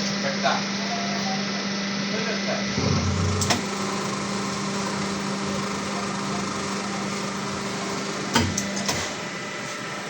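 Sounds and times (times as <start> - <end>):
mechanical hum with hissing: 0.0 - 10.0.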